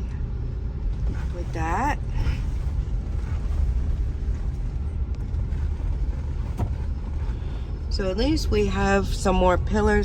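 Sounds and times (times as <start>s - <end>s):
car driving slowly: 0.0s - 10.0s.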